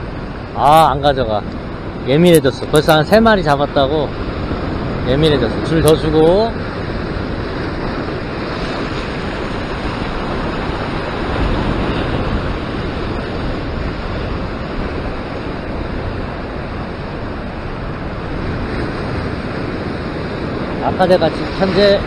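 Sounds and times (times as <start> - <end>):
surf breaking over rocks: 0.0 - 22.0
wind buffeting microphone: 0.0 - 22.0.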